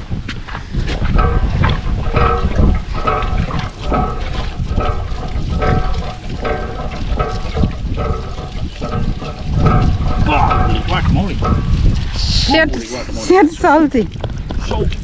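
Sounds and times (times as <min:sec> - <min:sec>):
water gushing and splashing: 0:00.1 - 0:15.0
pump handle squeaking: 0:01.0 - 0:14.6.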